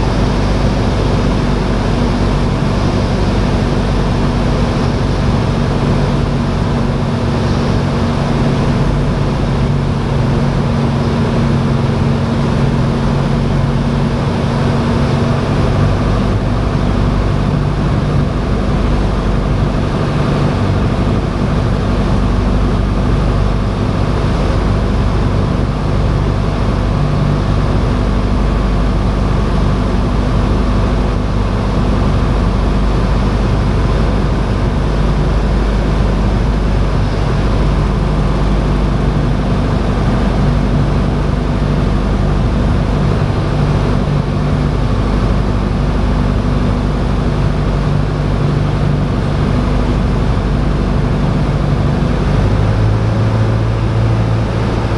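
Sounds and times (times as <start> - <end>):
propeller airplane engine droning: 0.0 - 54.9.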